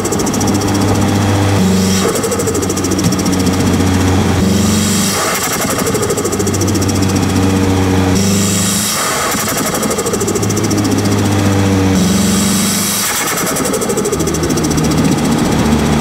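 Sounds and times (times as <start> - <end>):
turbocharged car engine running: 0.0 - 16.0.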